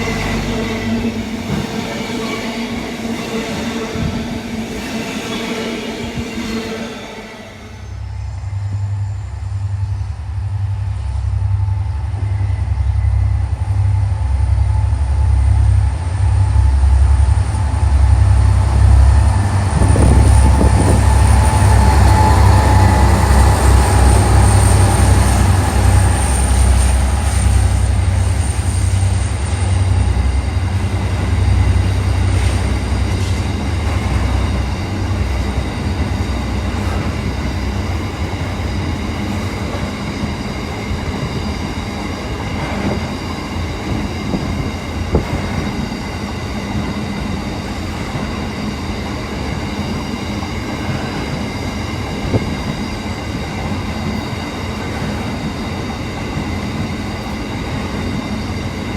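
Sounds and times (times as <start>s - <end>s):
train rumbling on rails: 0.0s - 58.9s.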